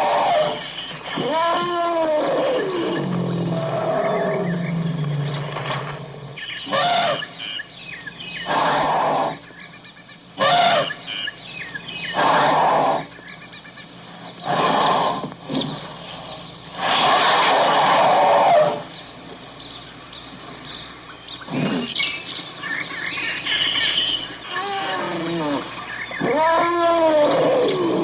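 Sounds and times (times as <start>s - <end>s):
elephants calling: 0.0s - 9.5s, 10.4s - 13.3s, 14.2s - 19.0s, 21.3s - 28.0s.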